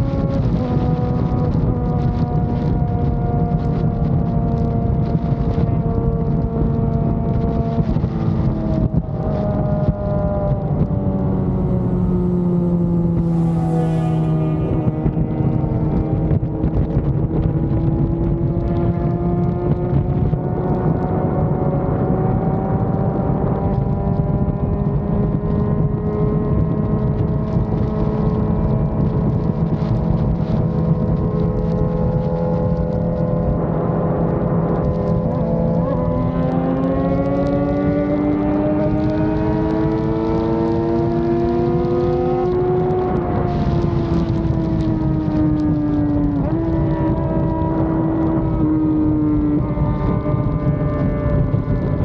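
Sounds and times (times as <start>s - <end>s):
motorcycle engine running: 0.0s - 52.0s
wind and road noise: 0.0s - 52.0s.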